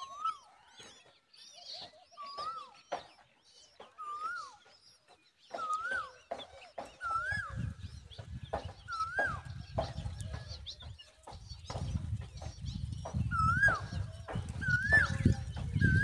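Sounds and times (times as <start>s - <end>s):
bird whistled calls: 0.0s - 11.0s, 11.6s - 16.0s.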